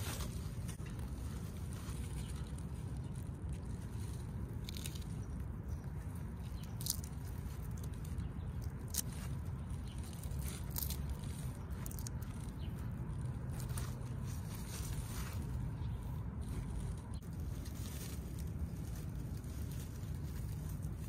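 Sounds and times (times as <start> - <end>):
low outdoor rumble: 0.0 - 21.0
pumpkin vine and leaves rustling: 0.0 - 21.0.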